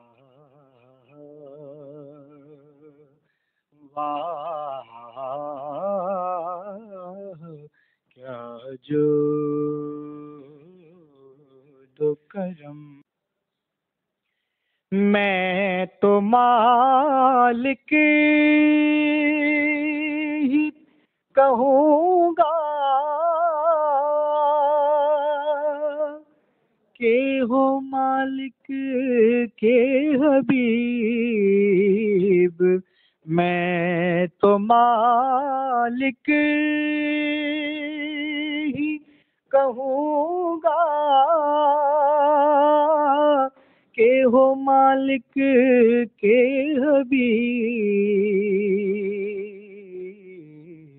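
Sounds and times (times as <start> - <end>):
person singing unaccompanied: 3.8 - 13.1, 14.9 - 26.3, 27.0 - 50.9.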